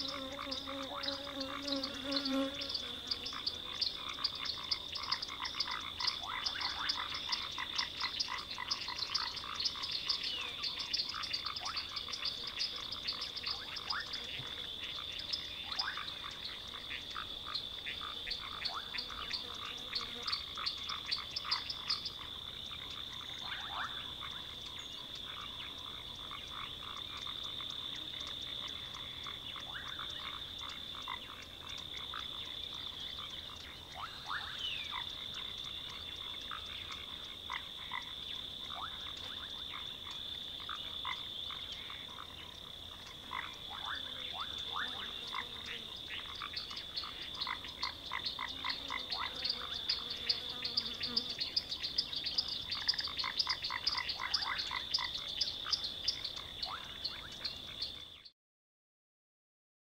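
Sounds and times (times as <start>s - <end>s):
frogs croaking: 0.0s - 58.3s.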